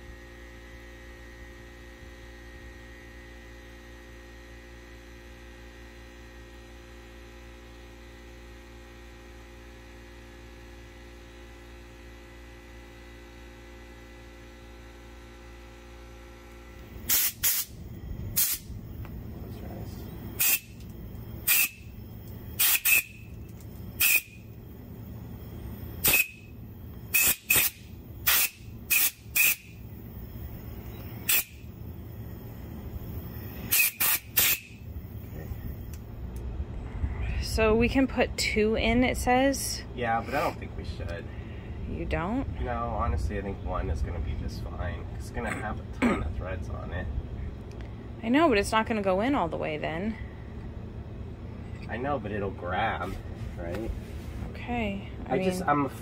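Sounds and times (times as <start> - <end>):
electrical hum: 0.0 - 56.0.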